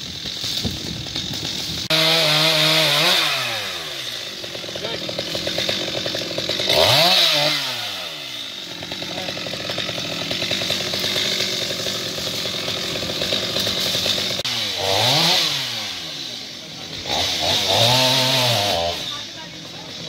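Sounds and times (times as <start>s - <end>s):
chainsaw revving: 0.0s - 20.0s.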